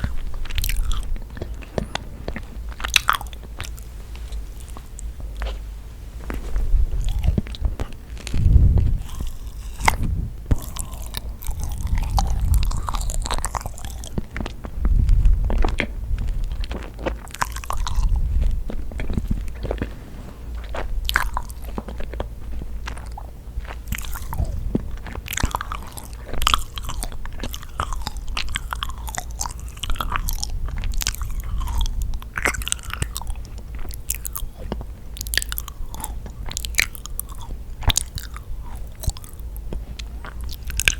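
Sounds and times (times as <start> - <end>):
chewing sticky cookie: 0.0 - 40.9.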